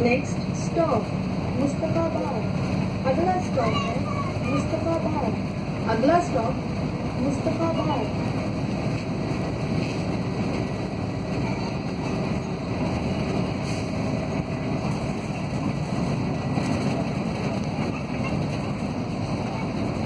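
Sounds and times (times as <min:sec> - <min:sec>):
bus running from inside: 0:00.0 - 0:20.0.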